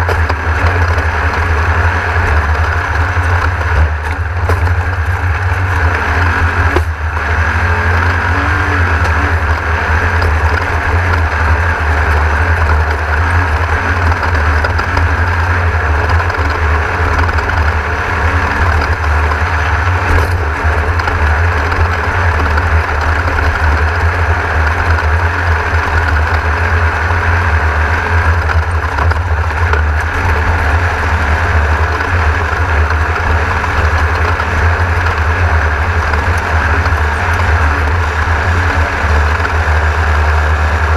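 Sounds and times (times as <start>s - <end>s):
constant rushing noise: 0.0s - 40.9s
heavy low rumble: 0.0s - 40.9s
race car engine under load: 0.0s - 40.9s.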